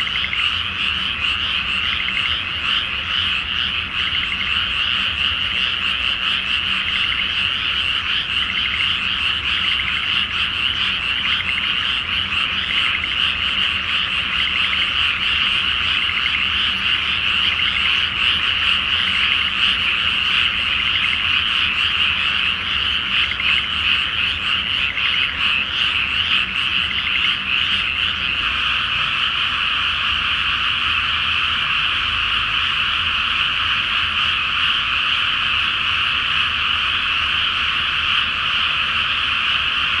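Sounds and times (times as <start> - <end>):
chorus of frogs croaking: 0.0 - 40.0.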